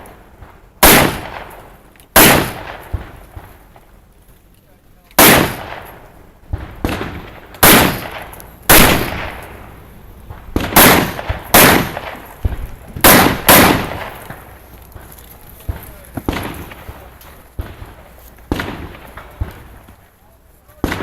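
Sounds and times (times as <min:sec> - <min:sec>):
rifle shots echoing: 0:00.0 - 0:03.8, 0:05.2 - 0:21.0
faint cracks: 0:00.0 - 0:13.0, 0:13.8 - 0:21.0.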